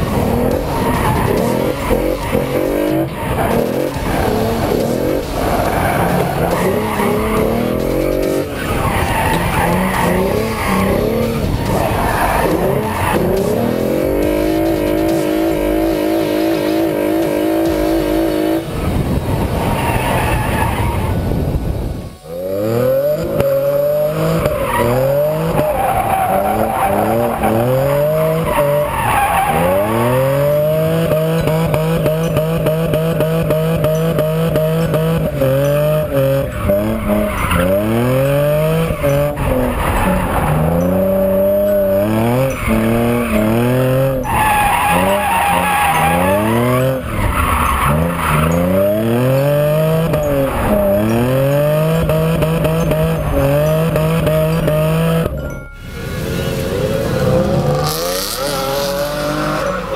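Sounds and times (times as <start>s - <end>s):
car engine revving hard: 0.0s - 59.9s
tyres squealing and skidding: 0.0s - 59.9s.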